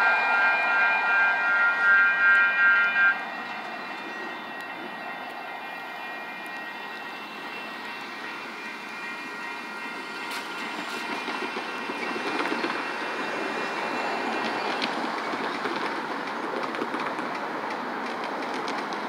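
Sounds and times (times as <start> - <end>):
steady high tones: 0.0 - 15.6
train rumbling past: 0.0 - 19.0.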